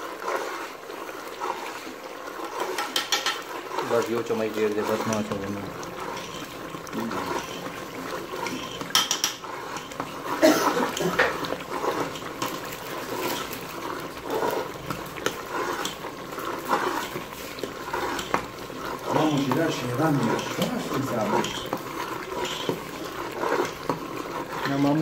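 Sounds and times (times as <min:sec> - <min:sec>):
metal spoon scraping a pot: 0:02.3 - 0:25.0.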